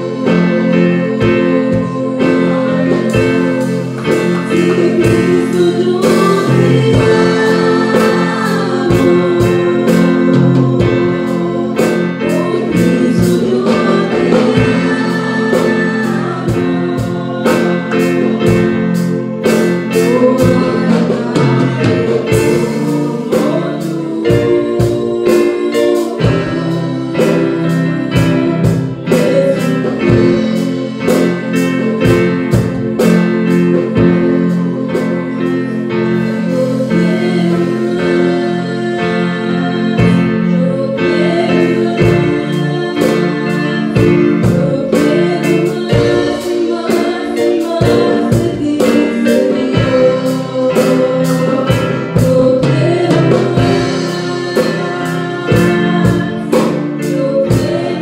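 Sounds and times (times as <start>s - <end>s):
electric guitar: 0.0s - 58.0s
steady drumbeat: 0.0s - 58.0s
woman singing through microphone: 0.0s - 58.0s.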